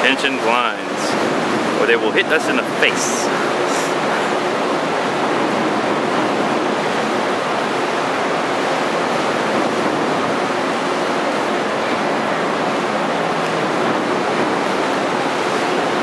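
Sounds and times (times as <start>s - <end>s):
churned sea water rushing: 0.0s - 16.0s.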